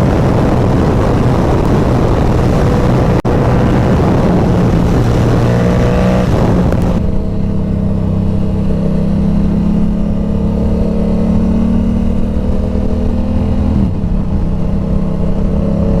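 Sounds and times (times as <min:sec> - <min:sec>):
motorcycle engine drone: 0:00.0 - 0:16.0
wind rush on microphone: 0:00.0 - 0:16.0.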